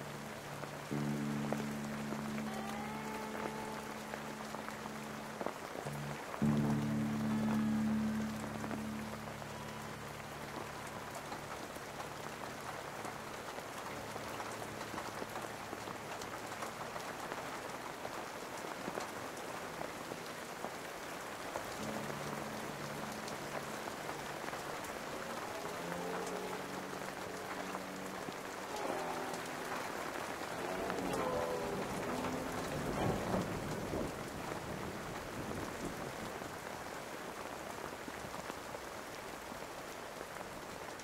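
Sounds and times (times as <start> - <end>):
ambient music: 0.0 - 36.2
low sustained notes: 0.0 - 38.2
rain hiss: 0.0 - 41.0.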